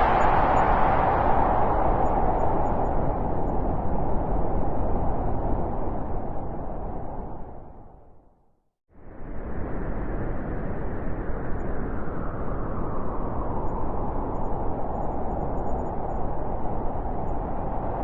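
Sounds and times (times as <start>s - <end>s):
howling wind: 0.0s - 18.0s.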